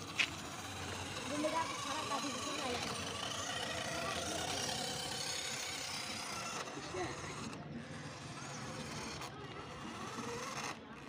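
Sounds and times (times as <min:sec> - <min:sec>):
toy truck electric motors whirring: 0:00.0 - 0:11.0.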